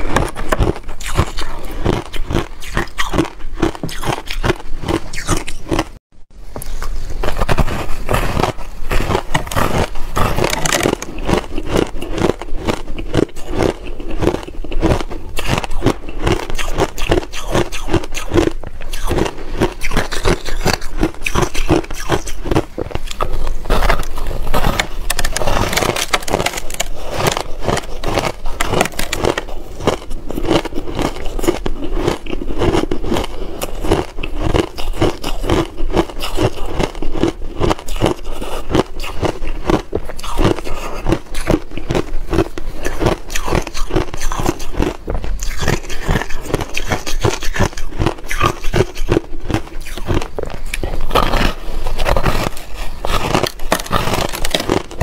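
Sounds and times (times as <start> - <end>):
ice crunching while chewed: 0.0 - 6.0, 6.6 - 55.0.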